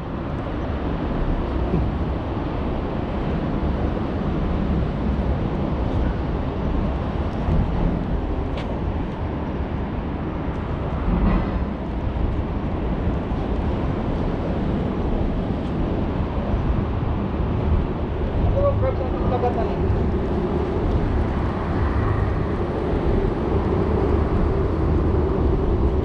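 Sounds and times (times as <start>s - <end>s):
outdoor background rumble: 0.0s - 26.0s.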